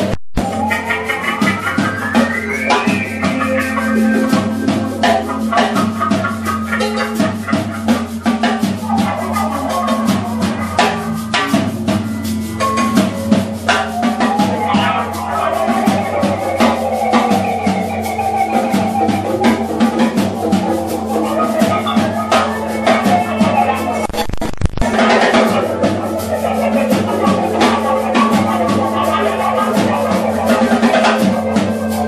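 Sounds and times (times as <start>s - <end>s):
drum kit snare and cymbals: 0.0s - 32.0s
keyboards: 0.0s - 32.0s.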